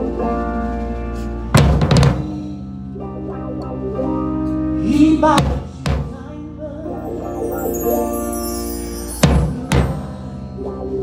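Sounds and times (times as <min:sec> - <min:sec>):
drum kit played with sticks: 0:00.0 - 0:11.0.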